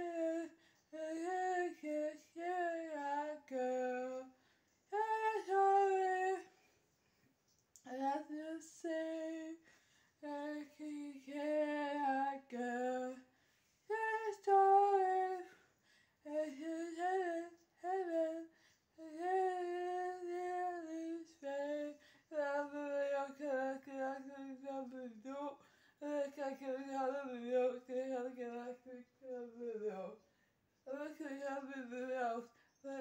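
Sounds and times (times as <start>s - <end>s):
woman singing unaccompanied: 0.0s - 6.7s, 7.8s - 33.0s.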